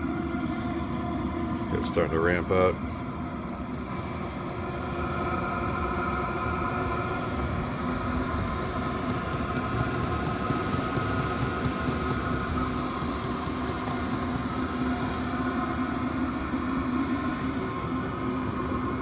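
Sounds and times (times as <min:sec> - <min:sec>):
heater blower fan humming: 0:00.0 - 0:19.0
fuel pump ticking: 0:00.9 - 0:16.6.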